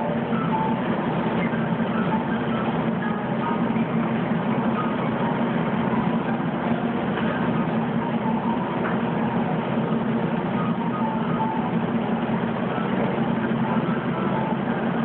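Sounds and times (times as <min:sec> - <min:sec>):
washing machines humming: 0:00.0 - 0:15.0.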